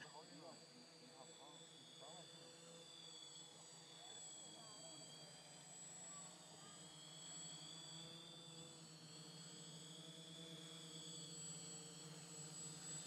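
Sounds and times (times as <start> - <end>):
quadcopter motors humming: 0.0 - 13.0.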